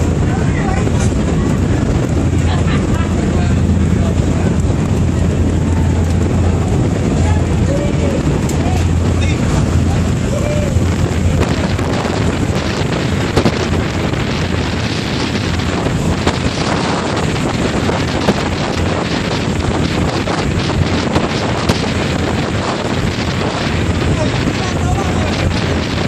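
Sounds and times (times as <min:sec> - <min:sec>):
low hum of ferry engine: 0:00.0 - 0:26.0
wind rushing on microphone: 0:00.0 - 0:26.0.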